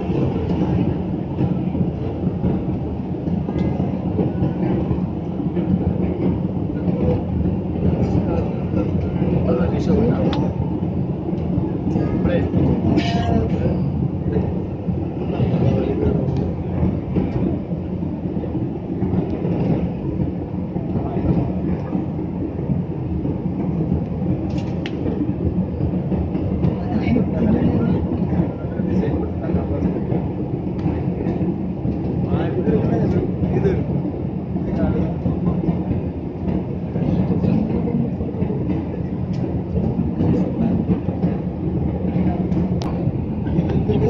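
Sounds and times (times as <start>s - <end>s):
jet airliner cabin rumble: 0.0s - 44.0s.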